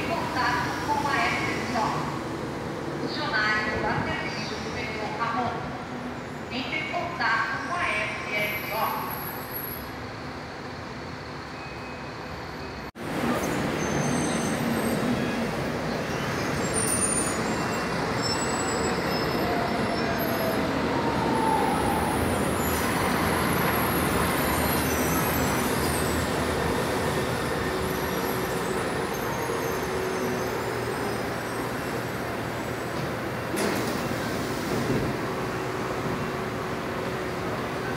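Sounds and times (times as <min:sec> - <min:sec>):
city street traffic: 0:00.0 - 0:37.9.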